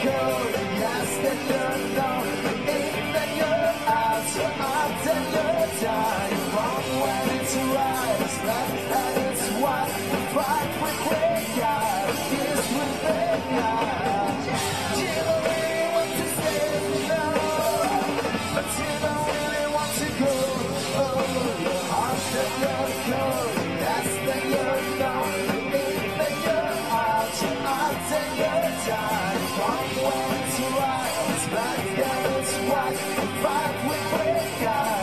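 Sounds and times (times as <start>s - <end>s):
drums: 0.0s - 35.0s
electric guitars: 0.0s - 35.0s
man singing into microphone: 0.0s - 35.0s.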